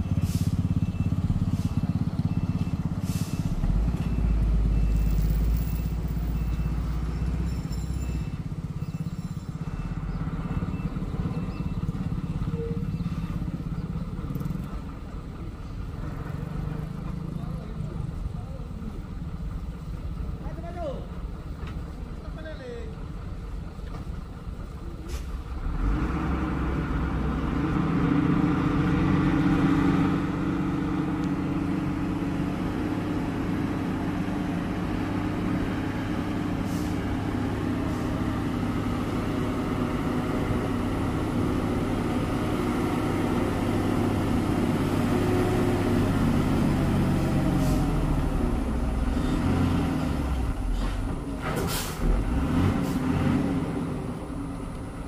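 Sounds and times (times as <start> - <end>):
heavy truck diesel engines labouring: 0.0 - 55.0.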